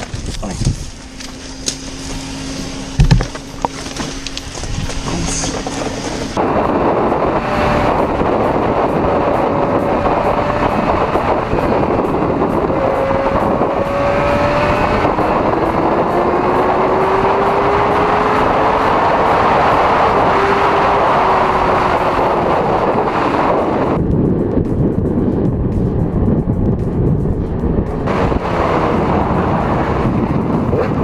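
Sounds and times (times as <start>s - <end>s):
motorcycle engine at speed: 0.0s - 31.0s
wind rush on microphone: 0.0s - 31.0s.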